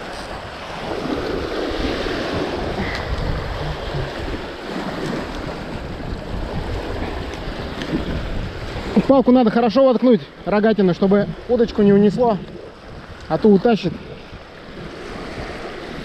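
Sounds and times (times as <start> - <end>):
gusty wind buffeting microphone: 0.0 - 9.7, 10.3 - 16.0.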